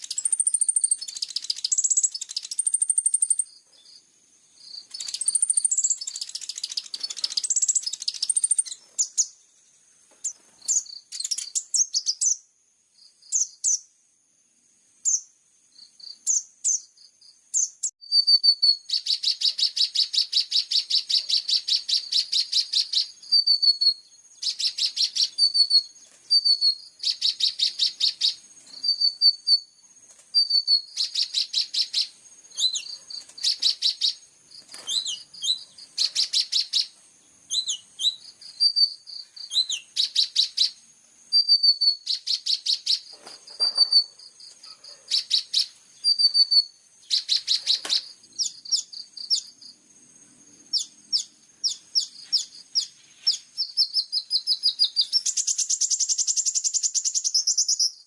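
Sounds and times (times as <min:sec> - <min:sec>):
songbird trills: 0:00.0 - 0:14.0, 0:15.0 - 0:58.0
sweeping bird chirps: 0:00.0 - 0:14.0, 0:15.0 - 0:58.0.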